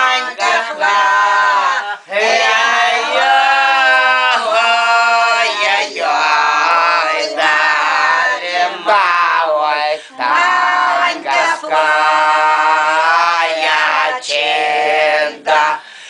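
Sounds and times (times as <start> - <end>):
women singing unaccompanied: 0.0 - 15.8.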